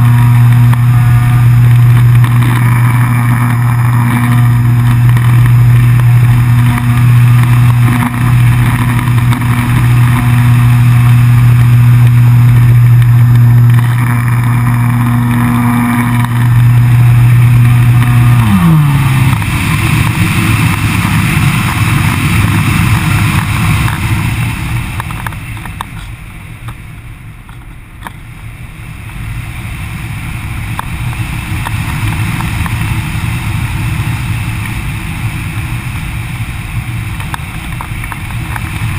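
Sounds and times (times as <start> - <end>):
electric motor and propeller whirring: 0.0 - 38.9
wind rushing over camera: 0.0 - 38.9.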